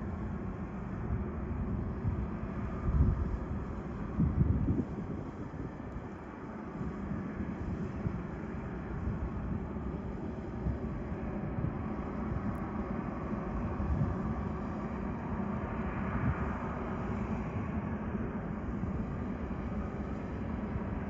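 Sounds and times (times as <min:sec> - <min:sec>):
jet engines running at low power: 0:00.0 - 0:21.0.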